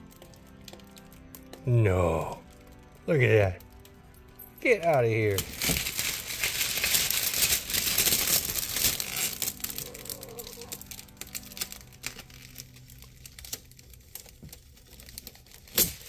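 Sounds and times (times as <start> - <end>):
plastic film crackling as peeled: 0.0 - 16.0.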